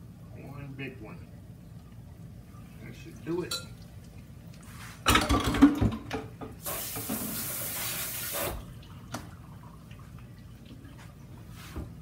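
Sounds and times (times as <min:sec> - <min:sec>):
tap water running: 0:00.7 - 0:12.0.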